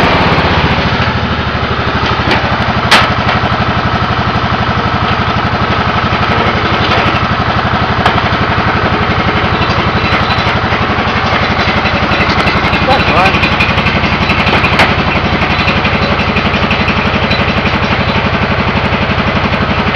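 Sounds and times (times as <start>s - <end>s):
garden tractor engine running: 0.0s - 19.9s.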